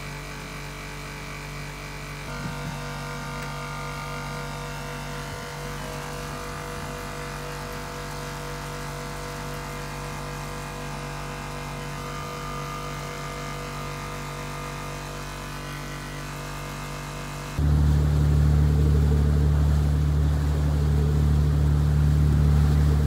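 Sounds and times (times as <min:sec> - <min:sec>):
machine humming: 0:02.0 - 0:23.0.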